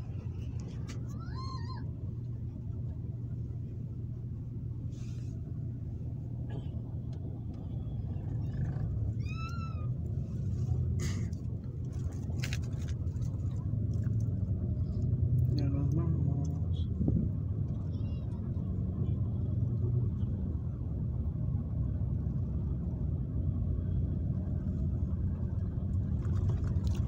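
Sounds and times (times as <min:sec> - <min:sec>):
bus engine and tyres rumbling: 0:00.0 - 0:27.0.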